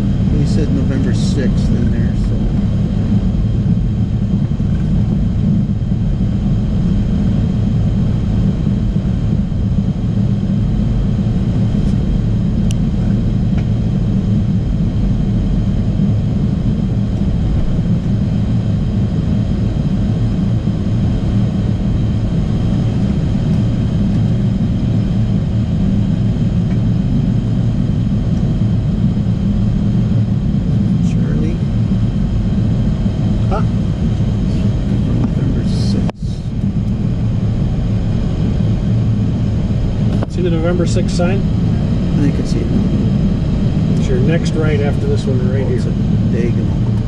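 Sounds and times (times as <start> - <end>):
jet engines rumbling and whining: 0.0 - 47.0.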